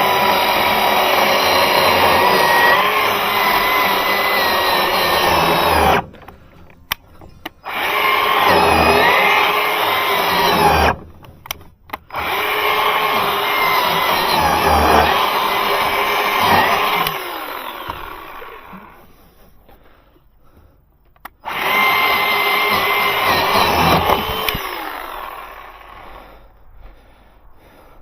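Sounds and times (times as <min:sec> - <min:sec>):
electric chainsaw cutting wood: 0:00.0 - 0:19.2, 0:21.4 - 0:26.5.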